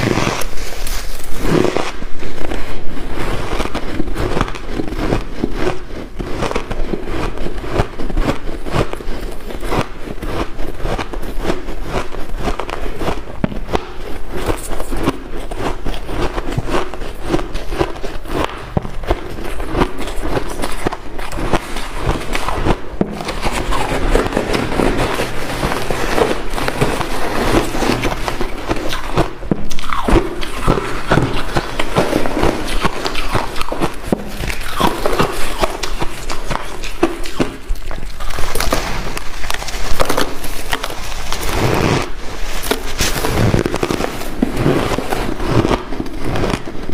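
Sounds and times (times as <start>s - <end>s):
ice being chewed and crunched: 0.0s - 46.9s.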